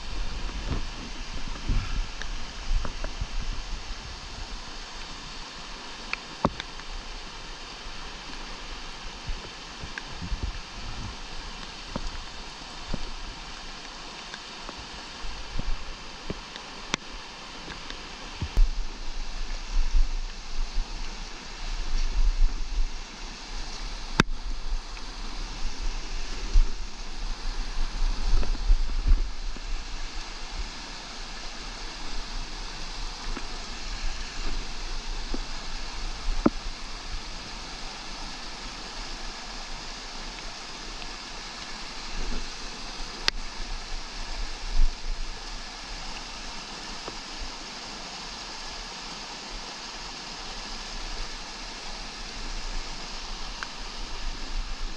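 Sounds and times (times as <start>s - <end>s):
creek rushing over boulders: 0.0s - 54.9s.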